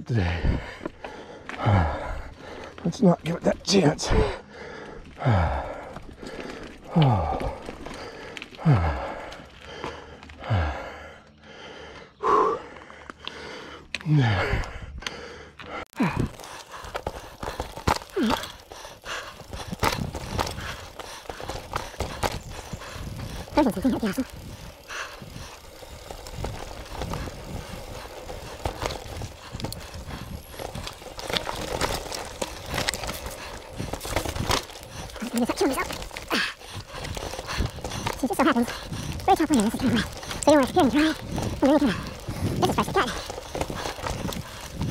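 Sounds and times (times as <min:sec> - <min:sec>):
person breathing hard: 0:00.1 - 0:02.8, 0:04.0 - 0:23.6, 0:24.2 - 0:44.9
bike clicks and rattles: 0:00.2 - 0:44.9.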